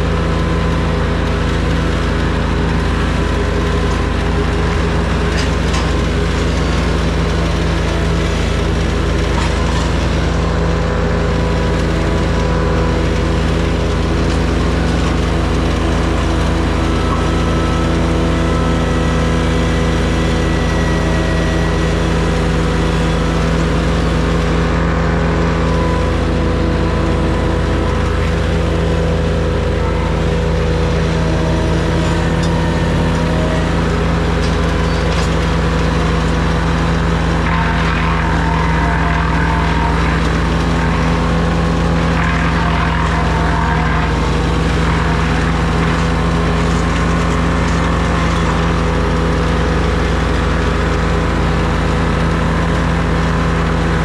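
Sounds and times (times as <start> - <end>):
engine running steadily: 0.0 - 54.0
rough gritty noise: 0.0 - 54.0.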